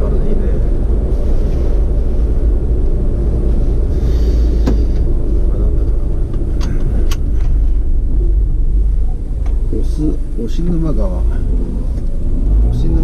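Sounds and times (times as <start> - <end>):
vehicle driving rumble: 0.0 - 13.0.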